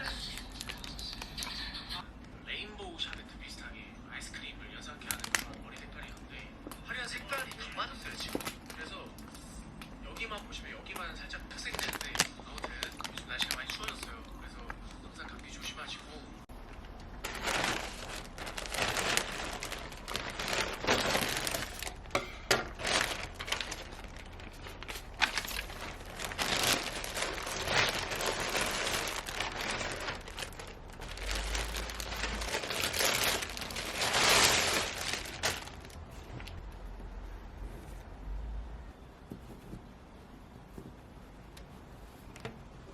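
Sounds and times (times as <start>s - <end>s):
crinkling and rustling: 0.0s - 1.4s, 4.9s - 15.6s, 16.5s - 38.2s, 39.2s - 42.9s.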